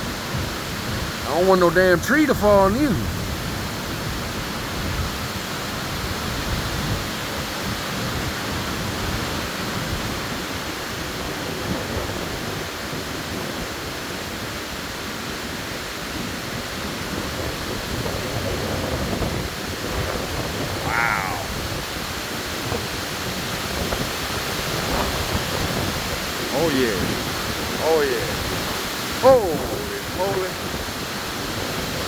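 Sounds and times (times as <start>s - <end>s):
wind blowing through trees: 0.0s - 32.0s.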